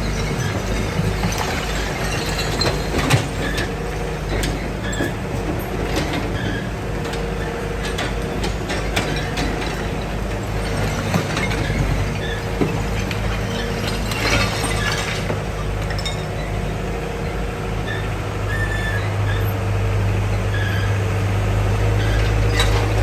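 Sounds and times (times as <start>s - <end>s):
excavator engine running: 0.0s - 23.0s.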